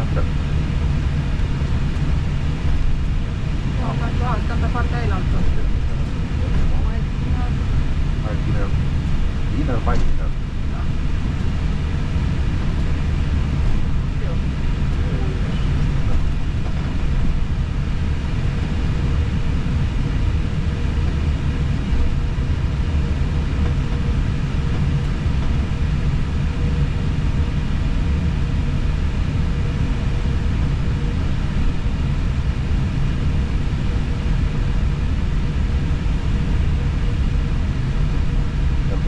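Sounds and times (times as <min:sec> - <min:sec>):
aircraft engines low rumble: 0:00.0 - 0:39.0.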